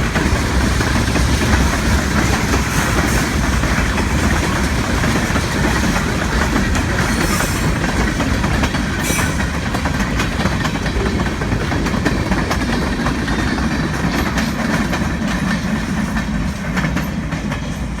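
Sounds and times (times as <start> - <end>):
freight train rumbling past: 0.0 - 18.0
wheels clicking over rail joints: 0.0 - 18.0.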